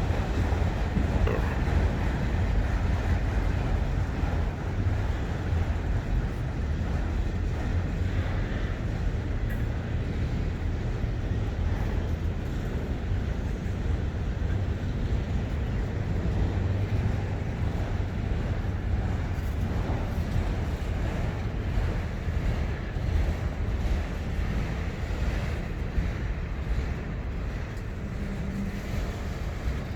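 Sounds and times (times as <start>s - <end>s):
freight train rumbling: 0.0s - 29.9s.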